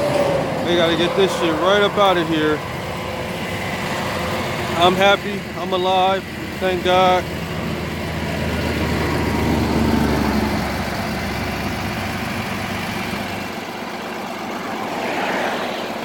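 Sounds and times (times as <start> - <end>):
heavy truck engine idling: 0.0 - 16.0.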